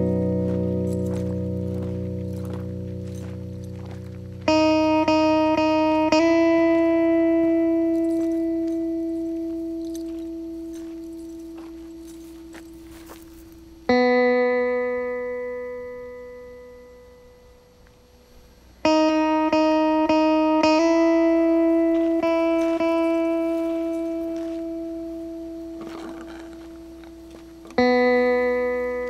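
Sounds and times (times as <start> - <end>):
slow guitar music: 0.0 - 29.0.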